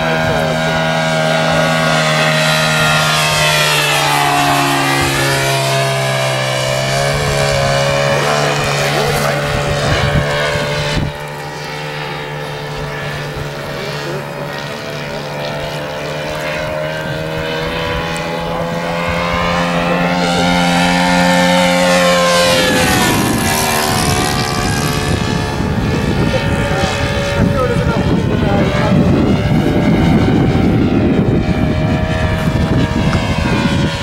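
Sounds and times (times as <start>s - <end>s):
model plane engine and propeller: 0.0s - 34.0s.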